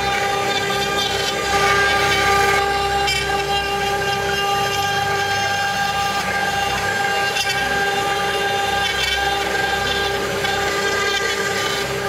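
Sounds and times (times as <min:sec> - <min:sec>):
cutter carving wood: 0:00.0 - 0:12.0
router spindle whining: 0:00.0 - 0:12.0.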